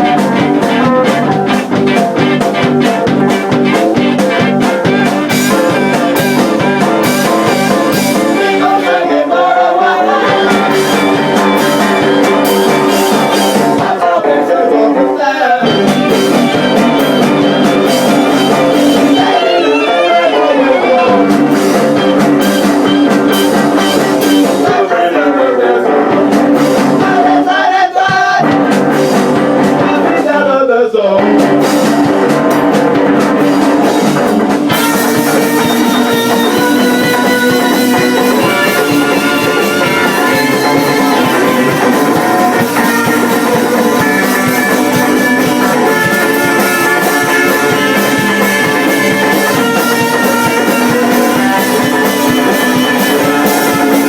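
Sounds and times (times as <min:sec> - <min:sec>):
person singing: 0:00.0 - 0:28.8, 0:29.6 - 0:31.4, 0:34.7 - 0:54.0
rock band playing live: 0:00.0 - 0:54.0.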